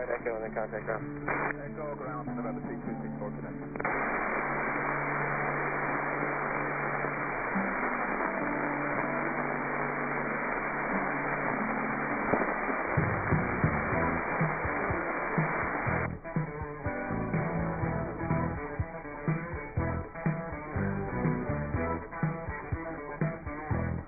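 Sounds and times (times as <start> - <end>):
music over radio feed: 0.0 - 24.0
radio intercom hiss: 0.0 - 24.0.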